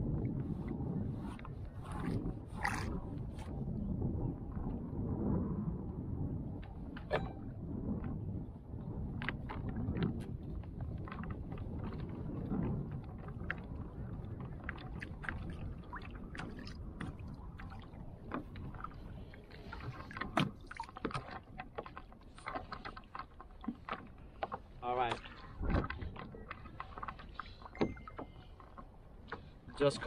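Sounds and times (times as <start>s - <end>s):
water lapping against hull: 0.0s - 30.0s.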